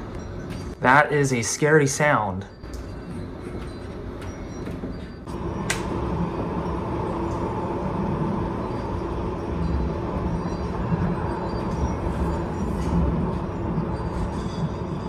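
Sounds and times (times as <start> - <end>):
wind gusting and whistling: 2.7 - 15.0.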